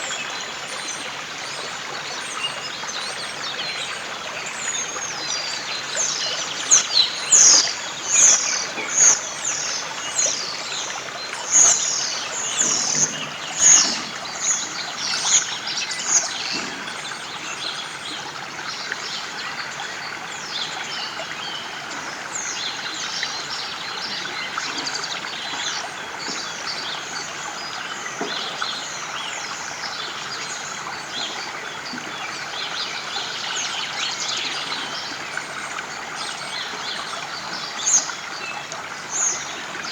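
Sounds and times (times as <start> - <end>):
songbirds chirping: 1.9 - 39.9.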